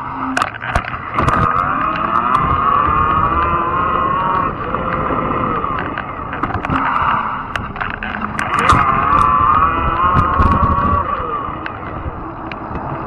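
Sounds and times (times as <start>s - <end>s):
electric motor whine: 0.0s - 13.0s
rattling clicks: 0.0s - 13.0s
road rumble: 0.0s - 13.0s.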